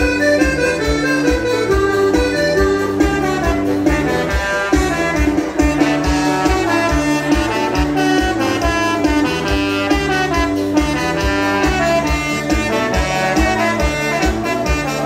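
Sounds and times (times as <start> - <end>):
bouncing bass: 0.0 - 15.0
saxophone melody: 0.0 - 15.0
steady drum beat: 0.0 - 15.0.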